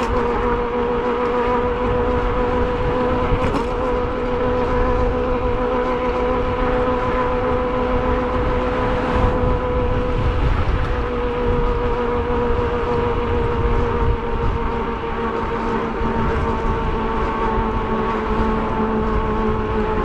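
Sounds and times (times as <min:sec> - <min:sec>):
electric bike motor whining: 0:00.0 - 0:20.0
wind and road noise: 0:00.0 - 0:20.0.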